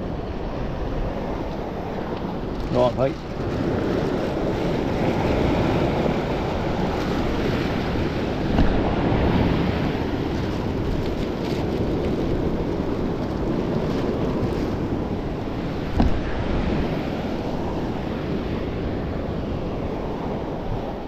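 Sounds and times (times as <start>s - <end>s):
sea surf: 0.0s - 21.0s
wind buffeting microphone: 0.0s - 21.0s.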